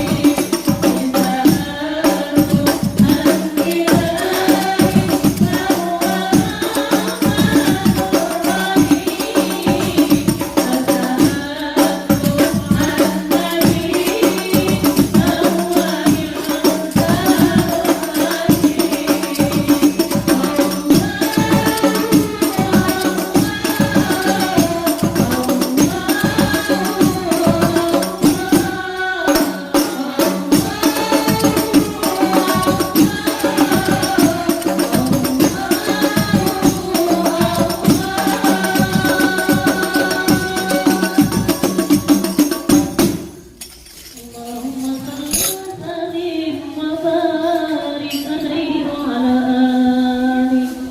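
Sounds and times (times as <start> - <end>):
voices singing a chant-like melody: 0.0 - 43.0
rapid frame drum beats: 0.0 - 43.6.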